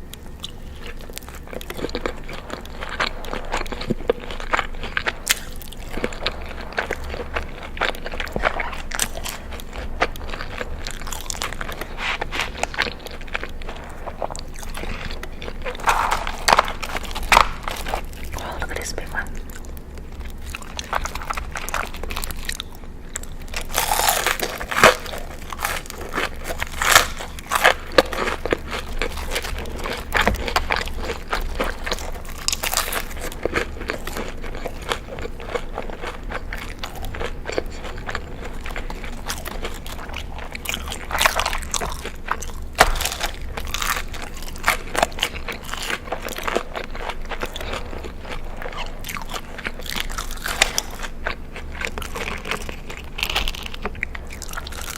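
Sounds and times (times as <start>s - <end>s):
chewing crunchy food: 0.0s - 54.9s.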